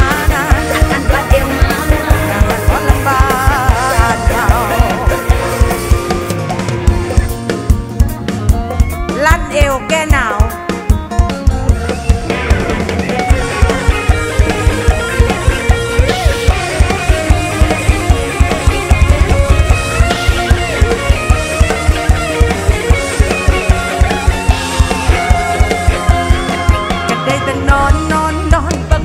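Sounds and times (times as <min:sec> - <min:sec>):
live band melodic lines: 0:00.0 - 0:29.0.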